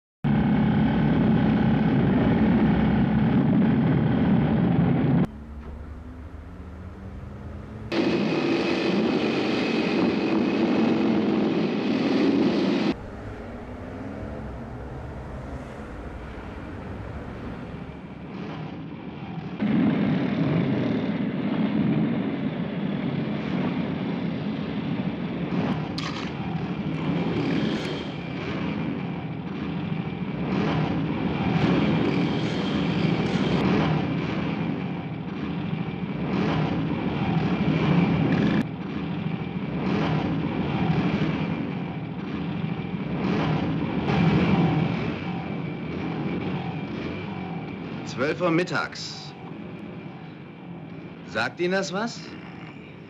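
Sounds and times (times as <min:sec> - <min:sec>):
motorcycle engines running: 0:00.3 - 0:53.0.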